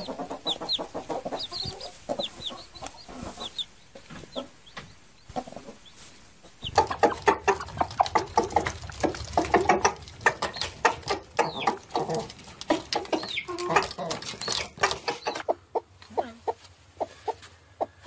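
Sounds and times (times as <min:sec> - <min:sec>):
hen clucking: 0:00.0 - 0:18.0.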